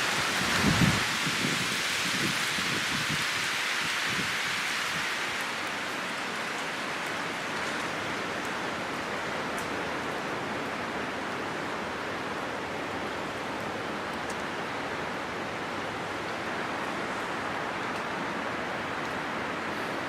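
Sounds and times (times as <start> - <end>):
wind rushing through leaves: 0.0 - 20.0.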